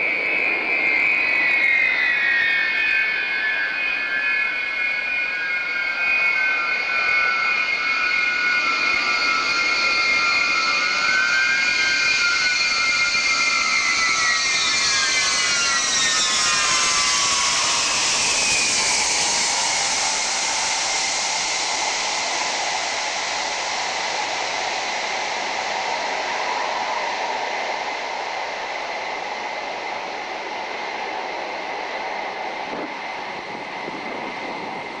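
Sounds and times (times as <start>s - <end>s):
jet engine roar: 0.0s - 35.0s
jet engines whining: 0.0s - 35.0s.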